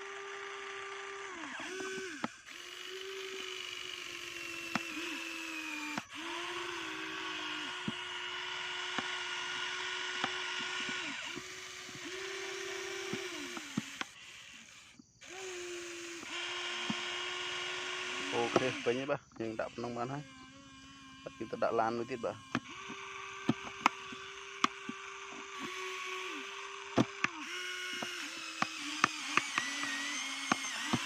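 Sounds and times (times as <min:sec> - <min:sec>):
toy electric motor whining: 0:00.0 - 0:31.0.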